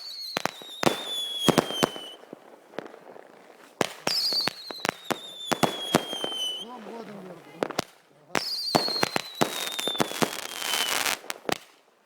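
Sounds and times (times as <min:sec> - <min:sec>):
firework bangs: 0:00.0 - 0:11.8.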